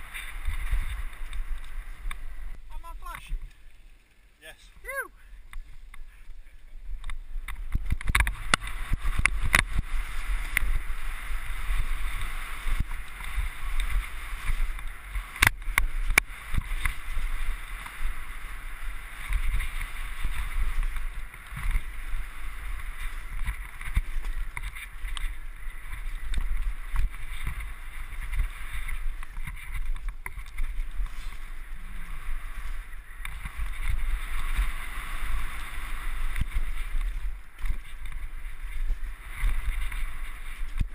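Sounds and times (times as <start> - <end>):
bike knocking and rattling: 0.0 - 4.3, 5.4 - 40.9.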